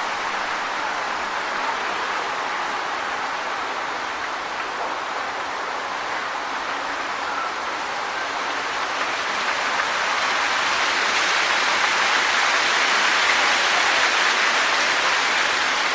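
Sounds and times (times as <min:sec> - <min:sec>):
wind rustling tree leaves: 0:00.0 - 0:15.9.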